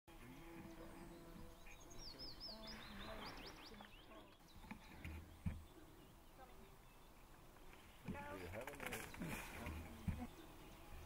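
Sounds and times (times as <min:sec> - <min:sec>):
faint forest ambience: 0:00.1 - 0:11.0
songbird warbling and chirping: 0:00.3 - 0:11.0.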